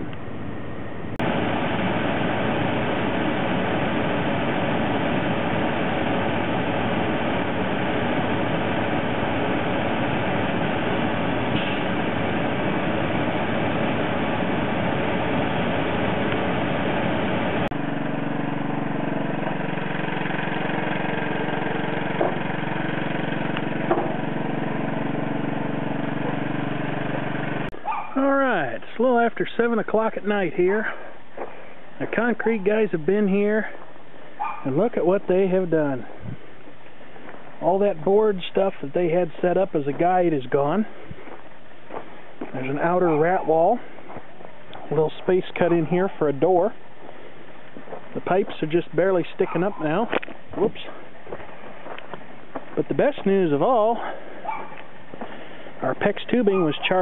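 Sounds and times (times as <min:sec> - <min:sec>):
diesel truck engine running: 0:00.0 - 0:28.6, 0:37.2 - 0:57.0.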